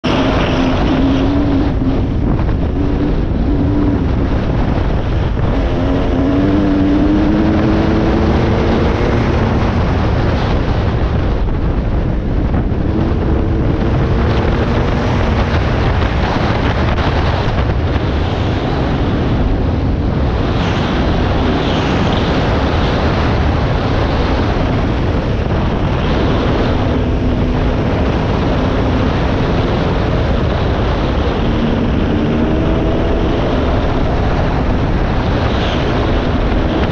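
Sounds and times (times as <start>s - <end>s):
dirt bike engine accelerating: 0.0s - 36.9s
wind buffeting on microphone: 0.0s - 36.9s.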